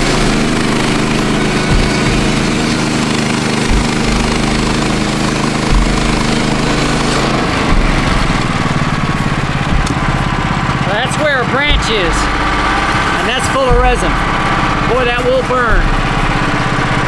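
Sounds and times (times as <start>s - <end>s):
sawmill engine drone: 0.0s - 17.0s.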